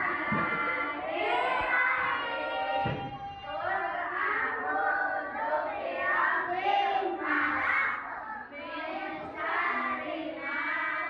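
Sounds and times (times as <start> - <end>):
young children singing: 0.0 - 11.0.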